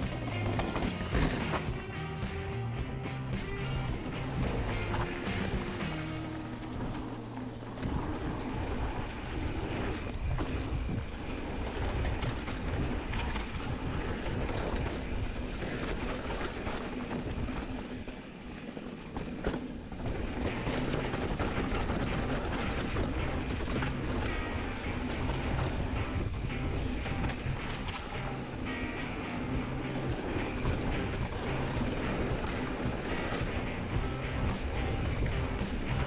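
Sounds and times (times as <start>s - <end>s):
bike tyre rumble on dirt: 0.0s - 36.0s
wind buffeting microphone: 3.8s - 36.0s.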